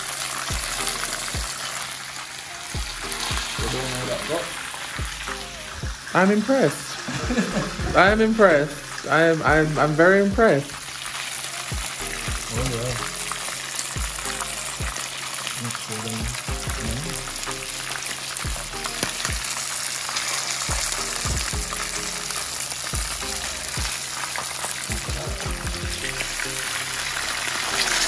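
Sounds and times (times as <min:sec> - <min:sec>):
oil sizzling in a pan: 0:00.0 - 0:28.0.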